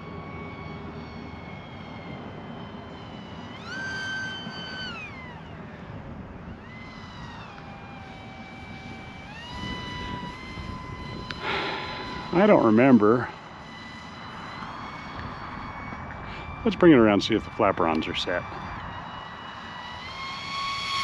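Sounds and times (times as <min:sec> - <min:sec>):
model plane motor whining: 0:00.0 - 0:21.0.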